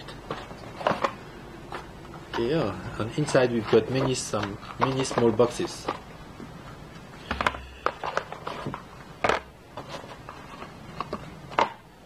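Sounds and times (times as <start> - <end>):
cardboard boxes tapping and scraping: 0.0 - 6.1, 7.2 - 11.8.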